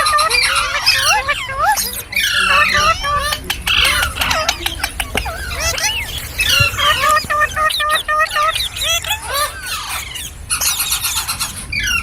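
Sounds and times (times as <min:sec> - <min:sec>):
parrot chirping and squawking: 0:00.0 - 0:12.0.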